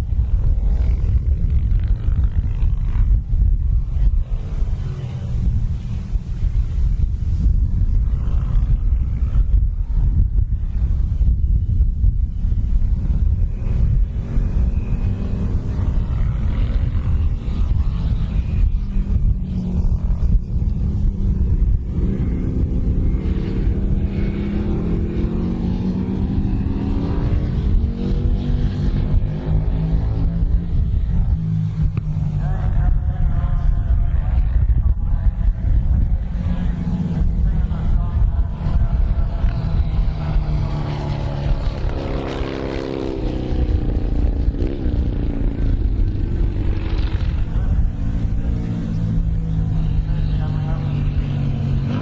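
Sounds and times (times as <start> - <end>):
motorcycle engine running rough: 0.0 - 52.0.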